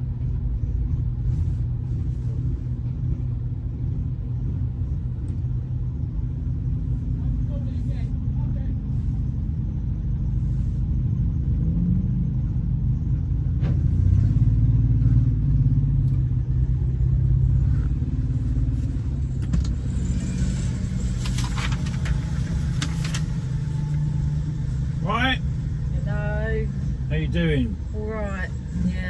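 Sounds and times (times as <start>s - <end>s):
car engine: 0.0s - 29.0s
road rumble: 0.0s - 29.0s.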